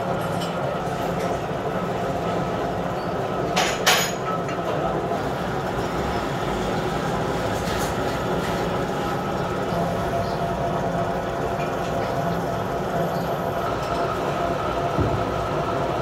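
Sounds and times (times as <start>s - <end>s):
machine mechanical drone: 0.0s - 16.0s.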